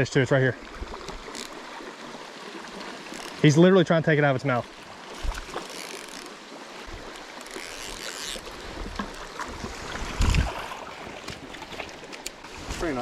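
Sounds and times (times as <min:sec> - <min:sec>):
river water rushing: 0:00.6 - 0:13.0.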